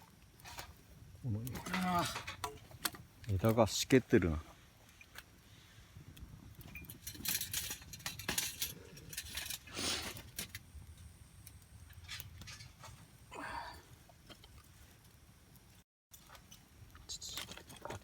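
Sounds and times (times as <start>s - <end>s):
fire hissing: 0.0s - 15.8s
campfire crackling and snapping: 0.0s - 18.0s.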